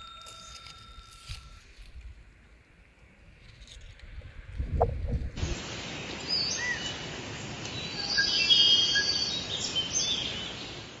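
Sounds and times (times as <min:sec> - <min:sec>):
steady background hiss: 0:01.6 - 0:11.0.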